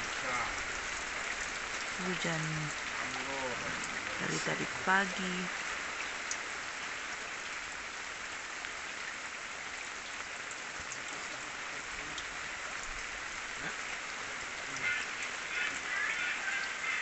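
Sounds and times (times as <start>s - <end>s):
raindrop ticks: 0.0s - 7.7s, 8.5s - 17.0s
steady rain falling: 0.0s - 17.0s.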